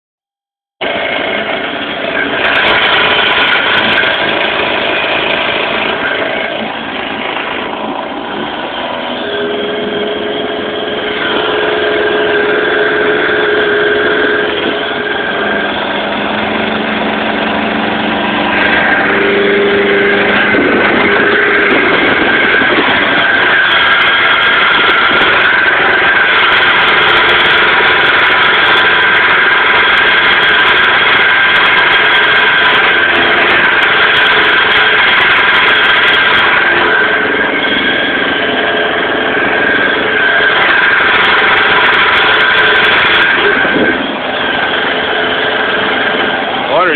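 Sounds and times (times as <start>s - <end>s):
outboard motor running: 0.5s - 46.9s.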